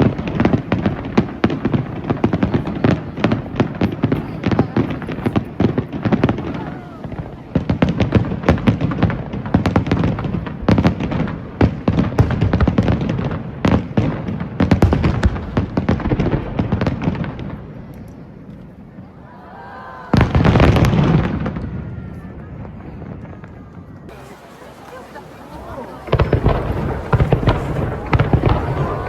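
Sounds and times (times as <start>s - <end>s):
fireworks bangs and crackling: 0.0s - 19.3s, 20.0s - 29.0s.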